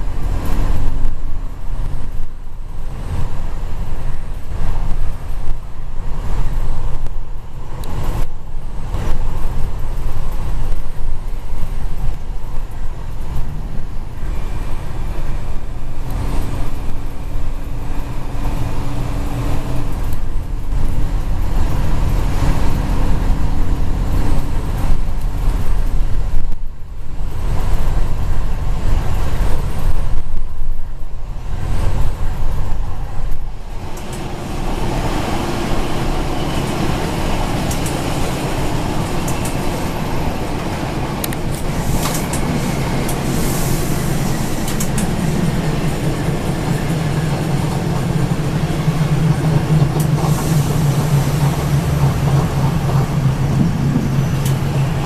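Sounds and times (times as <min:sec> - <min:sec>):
railcar engine and running rumble: 0:00.0 - 0:55.0.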